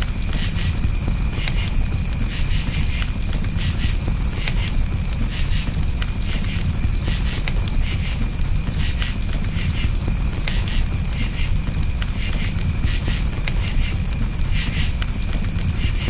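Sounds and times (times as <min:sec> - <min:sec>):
campfire crackling and popping: 0:00.0 - 0:16.0
crickets chirping: 0:00.0 - 0:16.0.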